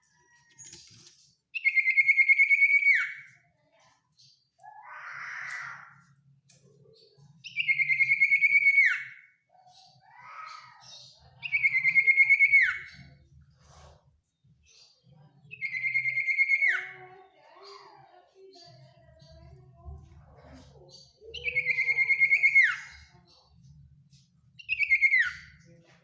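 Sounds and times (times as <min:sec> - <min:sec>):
soft bird chirps: 0:00.0 - 0:26.0.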